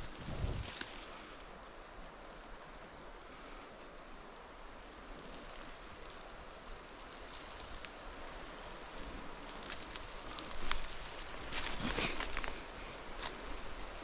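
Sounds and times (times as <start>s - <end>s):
light crackles: 0.0s - 14.0s
outdoor rustling: 0.0s - 14.0s.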